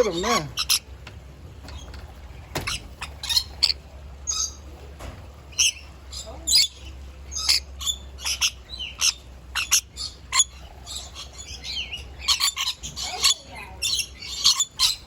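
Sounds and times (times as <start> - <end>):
lorikeets screeching: 0.0 - 1.0, 1.7 - 4.7, 5.5 - 15.0.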